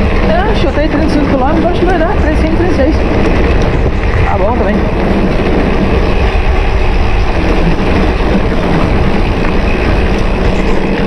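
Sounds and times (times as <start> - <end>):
bike tyre rumble: 0.0 - 11.0
wind rushing over microphone: 0.0 - 11.0.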